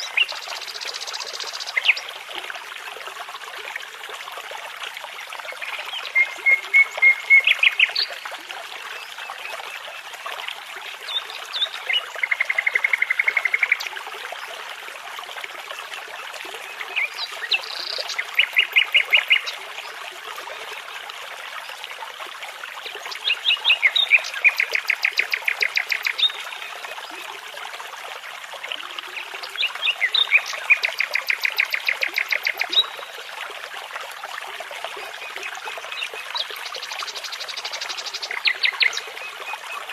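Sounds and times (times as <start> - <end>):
babbling brook: 0.0 - 39.9.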